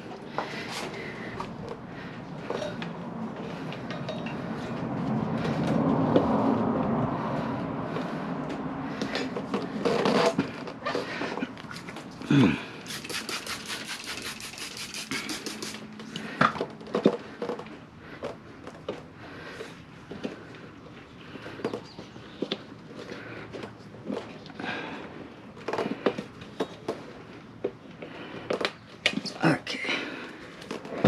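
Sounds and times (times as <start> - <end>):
tire irons scraping and creaking: 0.0 - 31.0.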